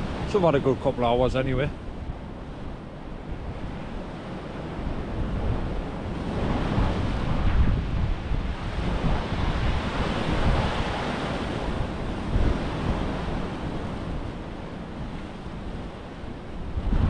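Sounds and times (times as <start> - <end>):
waves washing onto rocky shore: 0.0 - 17.0
wind rumbling on microphone: 0.0 - 17.0.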